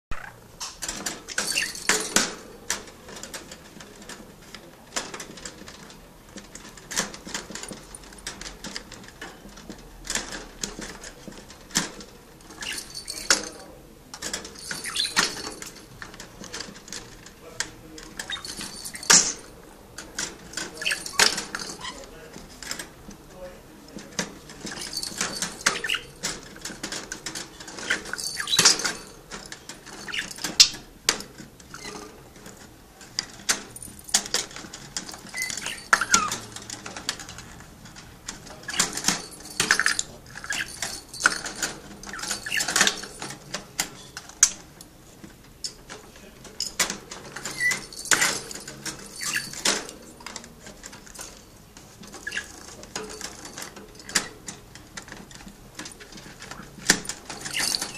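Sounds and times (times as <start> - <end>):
scratchy clicks and rustles: 0.2 - 57.9.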